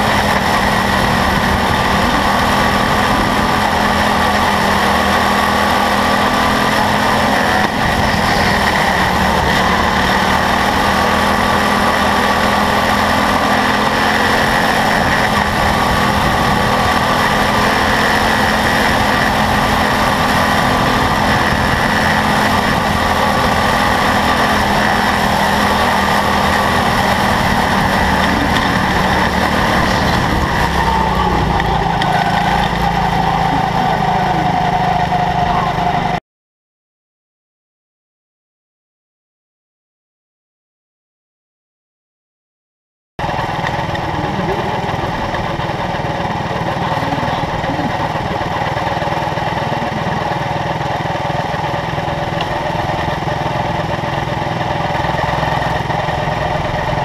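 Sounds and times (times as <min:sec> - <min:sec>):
race car engine drone: 0:00.0 - 0:36.2, 0:43.2 - 0:57.0.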